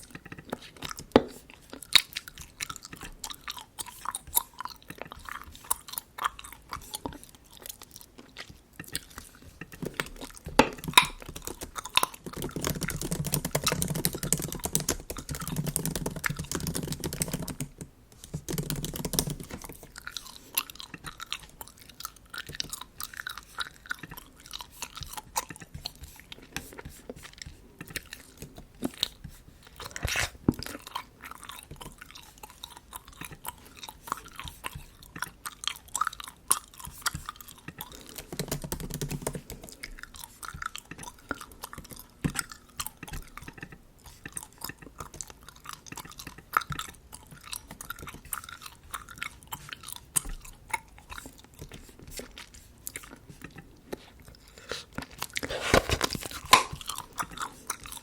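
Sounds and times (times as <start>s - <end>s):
bubble gum chewing: 0.0s - 58.0s.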